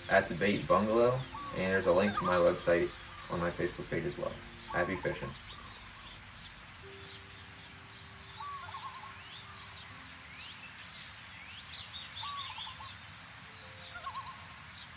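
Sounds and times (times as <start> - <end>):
background hiss: 0.0 - 14.9
birds chirping: 0.0 - 14.9.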